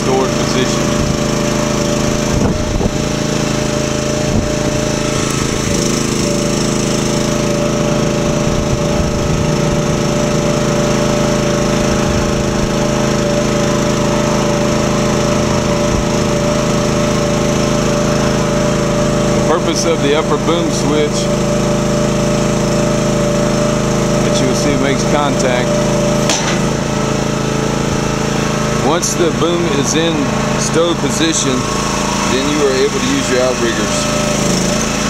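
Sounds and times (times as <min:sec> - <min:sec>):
small gasoline engine running: 0:00.0 - 0:35.0.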